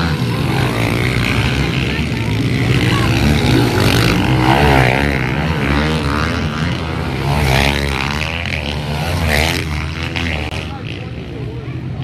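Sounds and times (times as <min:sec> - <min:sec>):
pit bike engines racing: 0:00.0 - 0:12.0.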